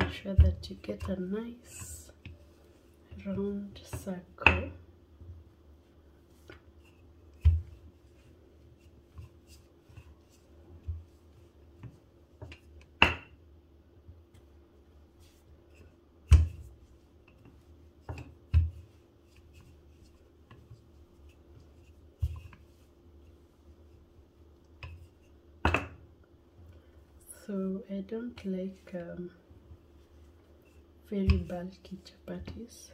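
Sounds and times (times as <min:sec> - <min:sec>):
rolling pin rolling dough: 0:00.0 - 0:26.6, 0:28.3 - 0:32.9.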